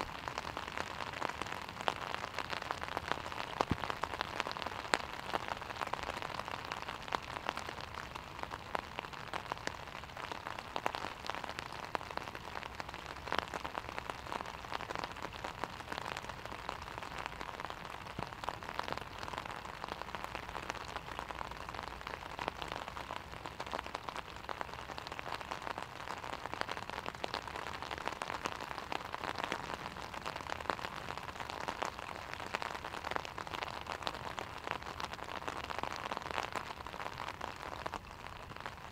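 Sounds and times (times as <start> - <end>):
rain falling on a lake: 0.0 - 38.9
raindrops tapping an umbrella: 0.0 - 38.9.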